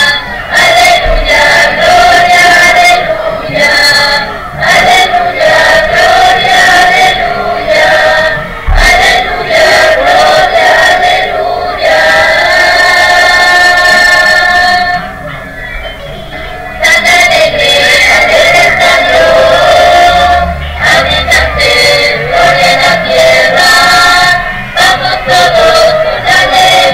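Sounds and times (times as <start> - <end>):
congregation singing a hymn: 0.0 - 26.9.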